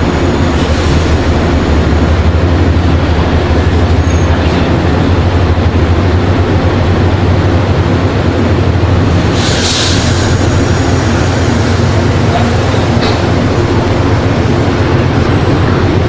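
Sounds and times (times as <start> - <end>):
train rumbling through station: 0.0 - 16.0.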